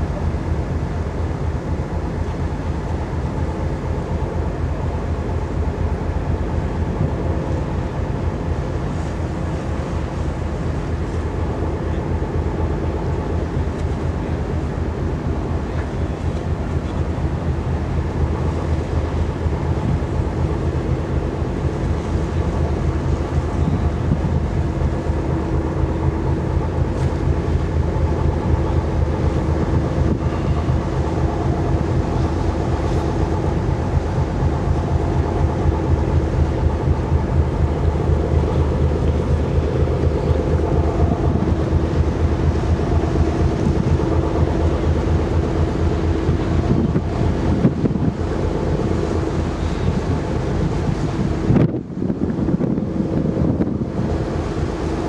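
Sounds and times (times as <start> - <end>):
ship engines droning: 0.0 - 55.0
steady hum: 0.0 - 55.0.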